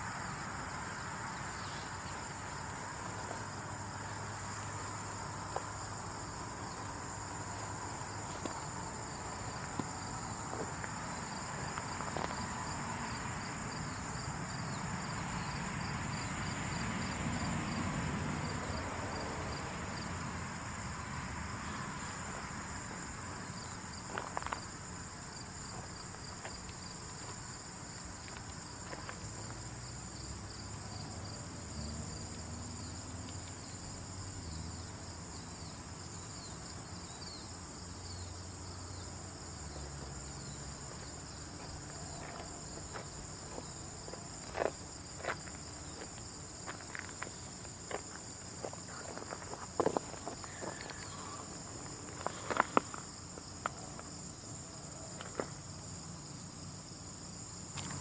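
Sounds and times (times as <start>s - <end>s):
insects chirring: 0.0s - 17.8s, 18.6s - 58.0s.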